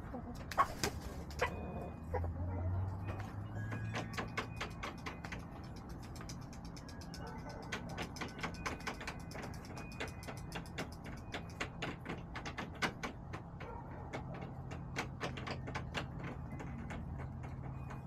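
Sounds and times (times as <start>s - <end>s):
chickens pecking hard surface: 0.0s - 1.6s, 3.2s - 18.0s.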